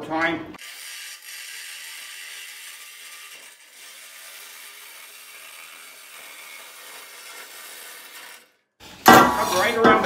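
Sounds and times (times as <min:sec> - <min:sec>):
reciprocating saw cutting metal: 0:00.6 - 0:10.0.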